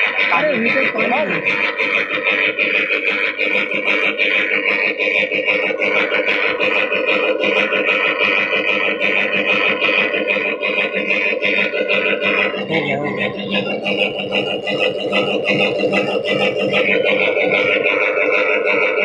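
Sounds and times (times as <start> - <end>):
fast mechanical rattle: 0.0 - 19.0
motor and gear whine: 0.0 - 19.0.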